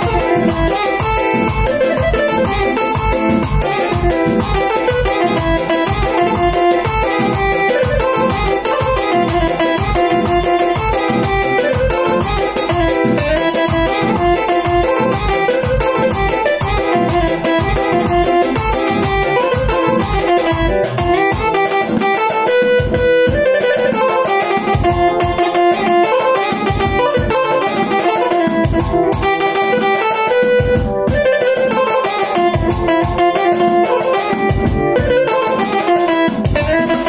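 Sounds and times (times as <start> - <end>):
keyboard melody with accompaniment: 0.0 - 37.0
steady low beat: 0.0 - 37.0.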